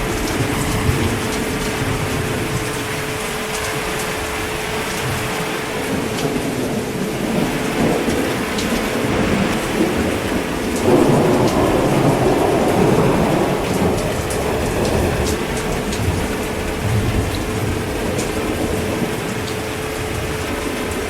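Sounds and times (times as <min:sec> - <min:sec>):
heavy rain falling: 0:00.0 - 0:21.0
thunder rolling: 0:00.0 - 0:21.0.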